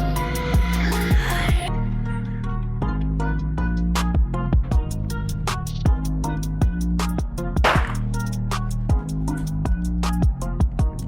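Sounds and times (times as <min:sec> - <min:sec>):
electronic music with steady beat: 0:00.0 - 0:01.7, 0:03.7 - 0:11.0
deep bass notes sliding down: 0:00.0 - 0:11.0.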